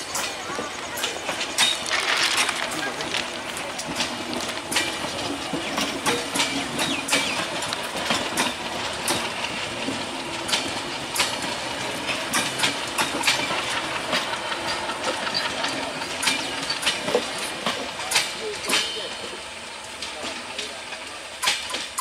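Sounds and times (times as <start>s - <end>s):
train running gear rumble: 0.0s - 22.0s
wheels clacking over rail joints: 0.0s - 22.0s.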